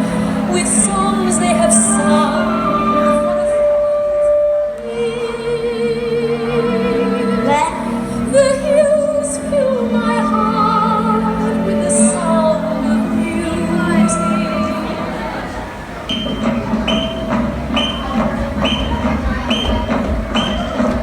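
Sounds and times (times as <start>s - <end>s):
instrumental accompaniment: 0.0s - 21.0s
person singing with vibrato: 0.0s - 21.0s.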